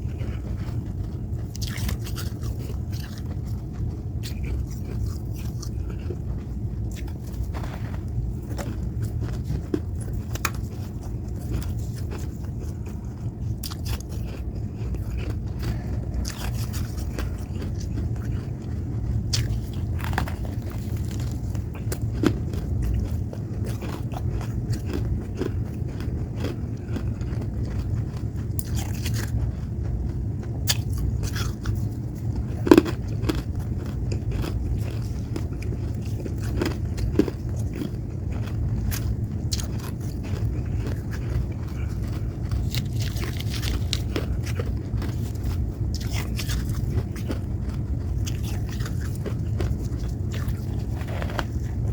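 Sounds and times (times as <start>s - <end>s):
chewing icy crunches: 0.0s - 51.9s
steady low hum: 0.0s - 51.9s.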